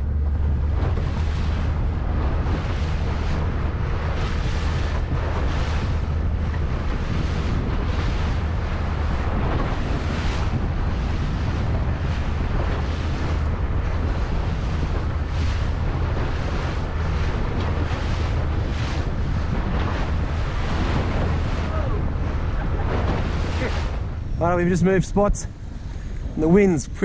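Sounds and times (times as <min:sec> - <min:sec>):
outboard motor running: 0:00.0 - 0:27.0
waves slapping hull: 0:00.0 - 0:27.0
wind buffeting microphone: 0:00.0 - 0:27.0.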